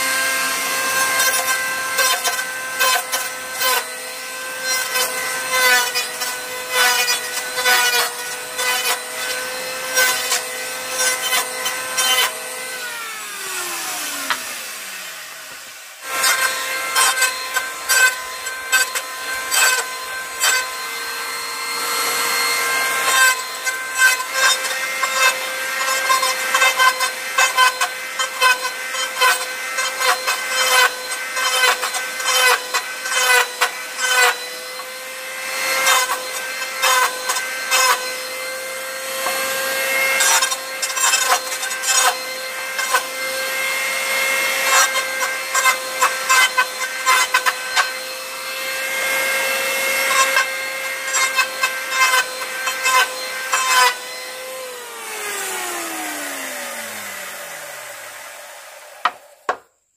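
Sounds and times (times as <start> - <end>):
power tool motor whine: 0.0 - 59.6
wood scraping and rasping: 0.0 - 59.6.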